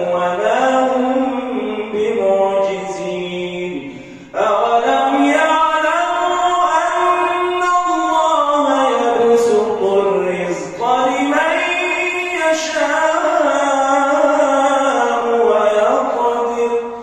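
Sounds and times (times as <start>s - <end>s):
man chanting recitation: 0.0s - 17.0s.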